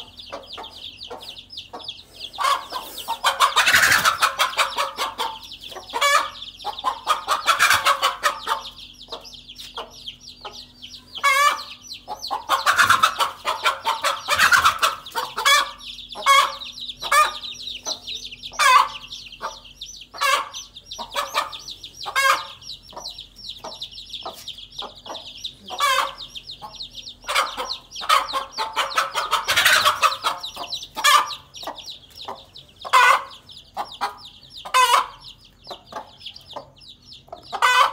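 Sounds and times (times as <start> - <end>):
chicks peeping: 0.0 - 37.9
hen clucking and squawking: 0.0 - 37.9.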